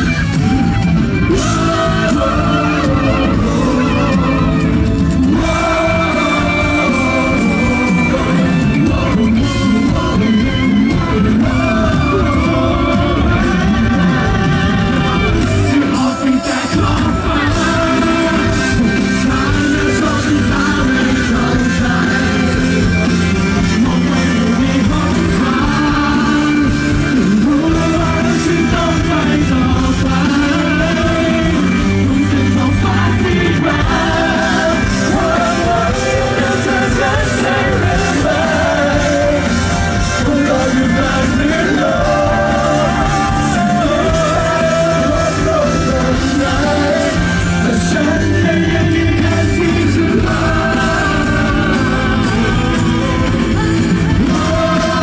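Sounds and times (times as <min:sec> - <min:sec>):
drums: 0:00.0 - 0:55.0
keyboard: 0:00.0 - 0:55.0
person singing: 0:00.0 - 0:55.0.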